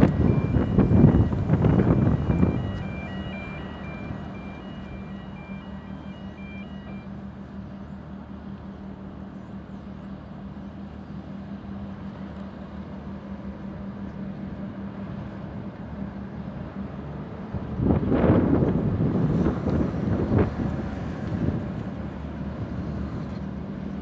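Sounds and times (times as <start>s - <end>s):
ferry diesel engines droning: 0.0s - 24.0s.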